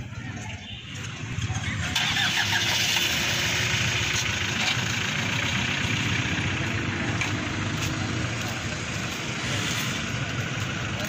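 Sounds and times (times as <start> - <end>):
engine running: 0.9 - 11.0.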